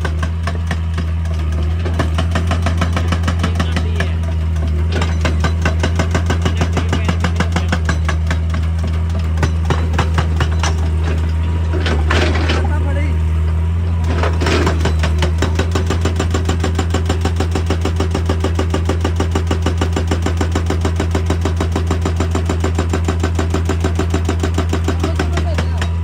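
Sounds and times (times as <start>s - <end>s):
excavator diesel engine running: 0.0s - 26.0s
hydraulic breaker pounding rock: 0.0s - 26.0s.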